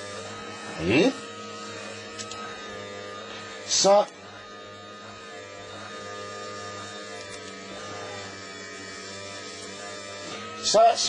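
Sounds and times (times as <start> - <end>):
potter's wheel motor humming: 0.0 - 11.0.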